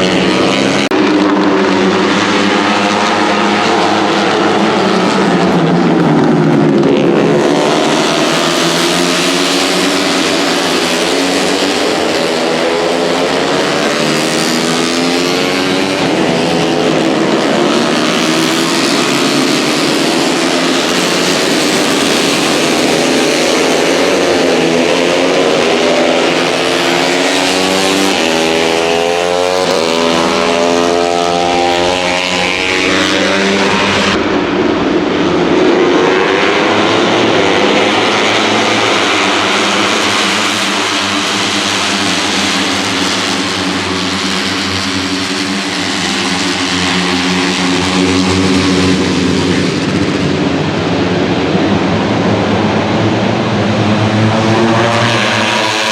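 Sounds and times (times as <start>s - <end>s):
race motorcycles at full throttle: 0.0s - 55.9s.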